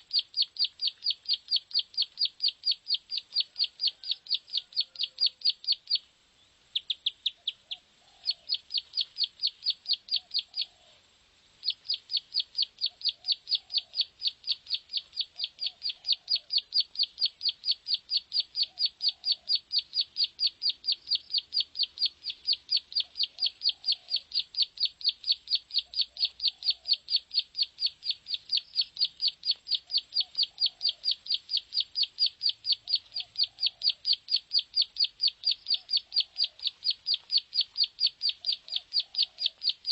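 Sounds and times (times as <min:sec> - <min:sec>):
bird high chirping song: 0:00.0 - 0:11.0, 0:11.6 - 0:39.9.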